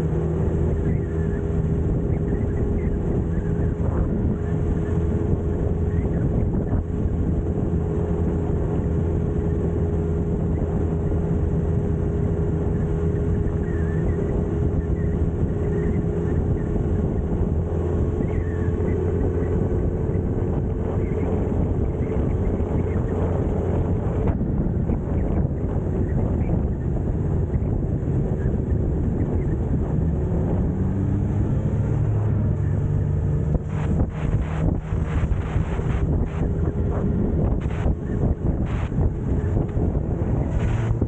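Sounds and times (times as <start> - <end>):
motorcycle engine cruising: 0.0 - 41.0
wind and road noise: 0.0 - 41.0.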